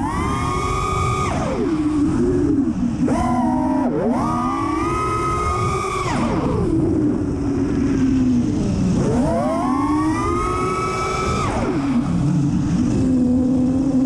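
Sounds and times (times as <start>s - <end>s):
drone motors and propellers whining: 0.0s - 14.0s
wind rush: 0.0s - 14.0s.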